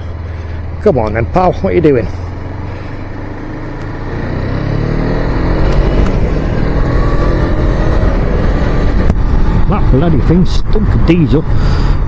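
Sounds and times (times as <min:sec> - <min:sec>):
motorcycle engine accelerating: 0:00.0 - 0:12.0
wind and road noise: 0:00.0 - 0:12.0.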